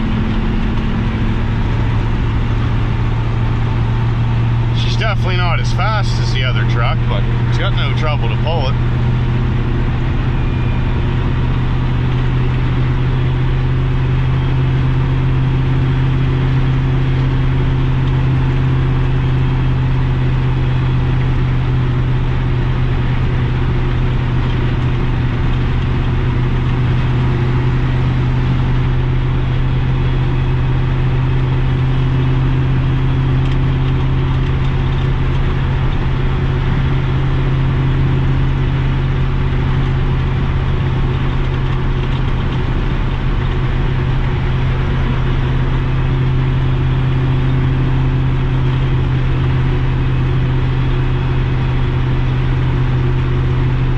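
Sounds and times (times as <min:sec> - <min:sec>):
truck engine droning: 0:00.0 - 0:53.9.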